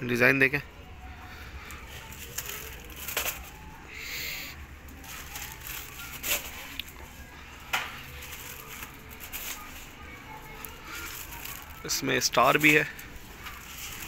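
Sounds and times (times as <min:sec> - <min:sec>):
paper rustling and crinkling: 0:01.6 - 0:03.8, 0:04.9 - 0:14.0
sharp paper crackles: 0:01.6 - 0:03.8, 0:04.9 - 0:14.0.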